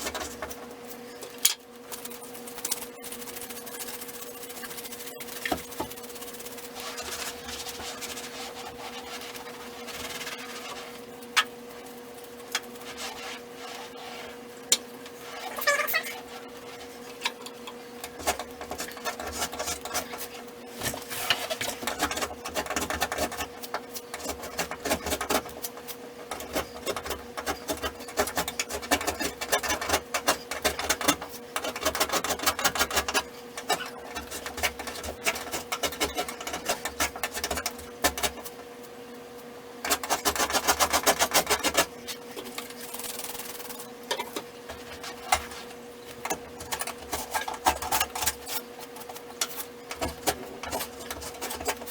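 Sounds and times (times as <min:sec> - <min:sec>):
wallpaper being scraped off wall: 0:02.1 - 0:11.2, 0:11.8 - 0:14.5, 0:15.1 - 0:17.4, 0:18.0 - 0:38.6, 0:39.8 - 0:43.9, 0:44.7 - 0:51.9.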